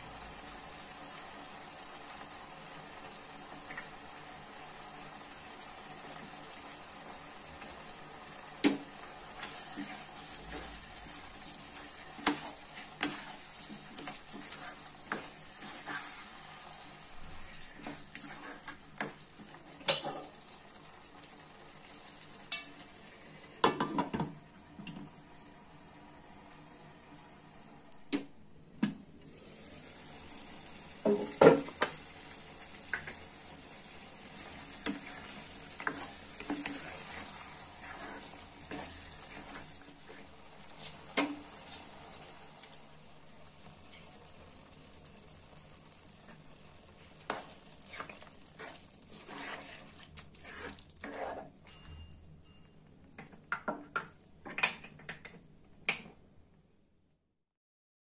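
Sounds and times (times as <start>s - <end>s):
curry sizzling and bubbling: 0.0s - 27.7s, 29.2s - 55.3s.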